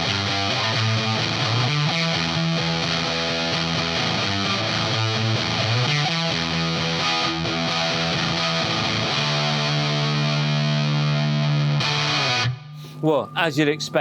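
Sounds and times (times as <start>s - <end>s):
fuzz electric guitar: 0.0s - 12.9s.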